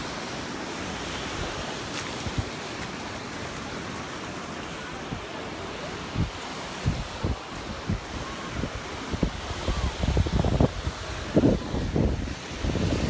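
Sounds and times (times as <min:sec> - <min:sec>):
surf washing onto sandy beach: 0:00.0 - 0:13.0.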